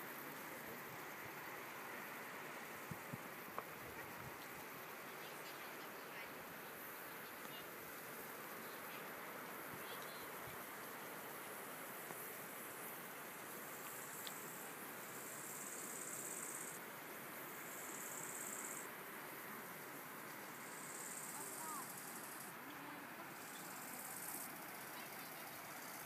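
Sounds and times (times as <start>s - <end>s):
insects buzzy trills: 0.0s - 26.0s
rushing hiss outdoors: 0.0s - 26.0s.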